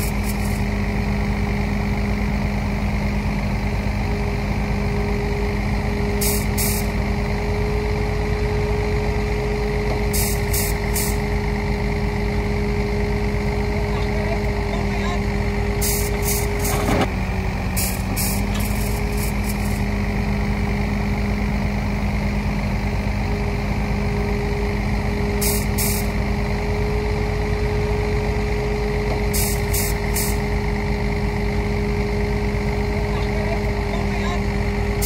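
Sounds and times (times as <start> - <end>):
diesel machinery running: 0.0 - 35.0.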